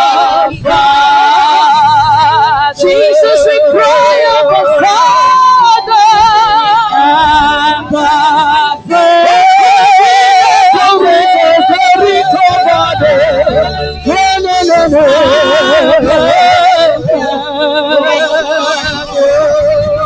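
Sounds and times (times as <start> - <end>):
musical accompaniment: 0.0 - 20.0
person singing with heavy vibrato: 0.0 - 20.0.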